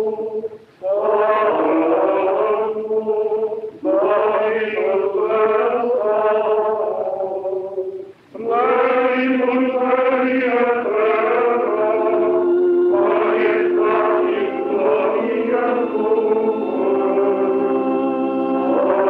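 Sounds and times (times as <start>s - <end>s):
male choir chanting: 0.0s - 19.0s.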